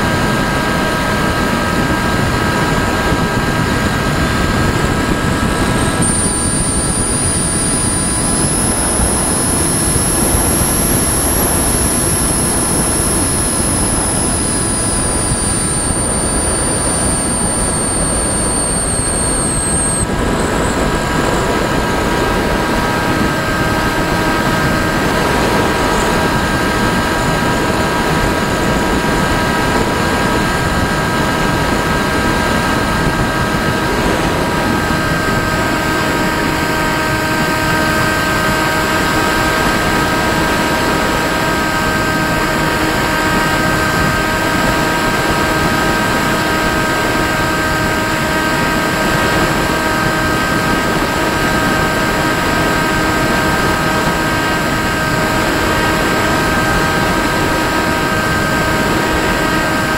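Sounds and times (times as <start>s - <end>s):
model aircraft propeller whine: 0.0s - 59.9s
rush of noise: 0.0s - 59.9s.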